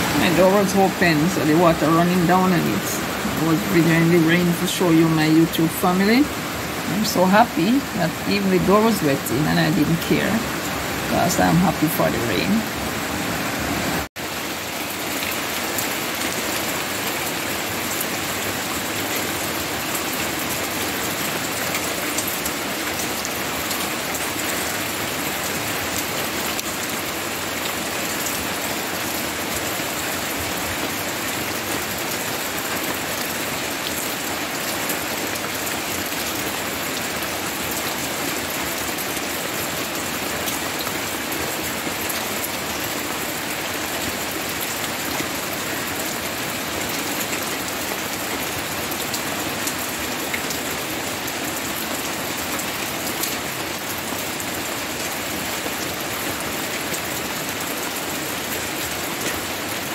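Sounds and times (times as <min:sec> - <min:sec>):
rain on foliage: 0:00.0 - 0:59.9.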